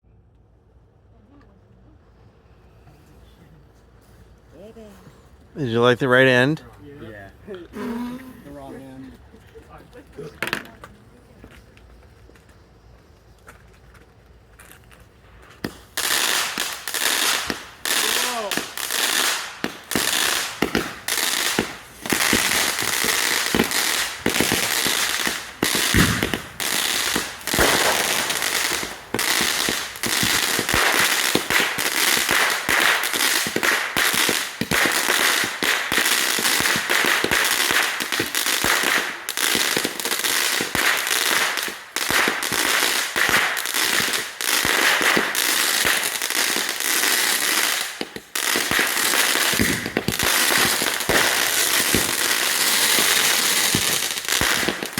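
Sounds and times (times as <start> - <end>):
fireworks crackling: 5.6 - 54.9.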